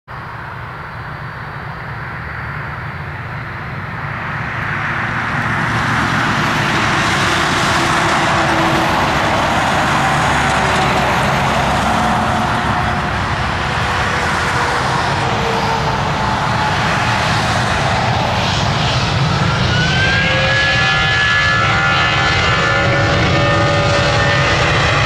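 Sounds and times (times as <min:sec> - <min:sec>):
jet engines running: 0:00.2 - 0:25.0.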